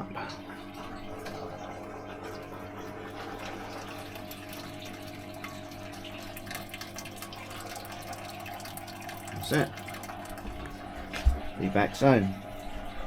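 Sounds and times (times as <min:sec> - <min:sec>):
small pumps humming: 0:00.0 - 0:13.0
water running and splashing: 0:00.4 - 0:13.0.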